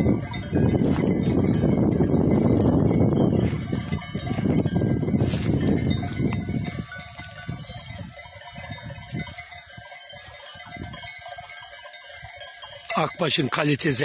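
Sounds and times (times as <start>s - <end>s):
livestock bells ringing: 0.0s - 14.0s.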